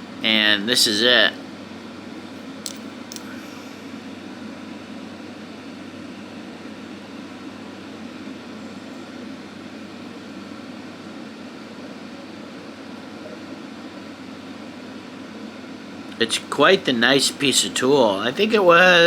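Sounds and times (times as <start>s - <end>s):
low whir with hiss: 0.0s - 19.0s.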